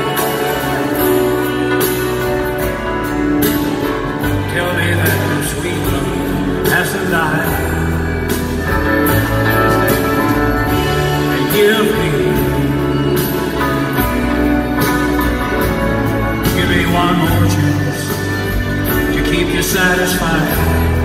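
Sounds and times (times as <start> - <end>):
live country band ballad: 0.0 - 21.0.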